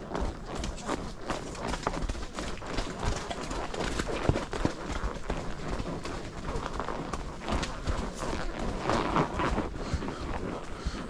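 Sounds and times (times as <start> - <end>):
horse hooves on ground: 0.0 - 11.0.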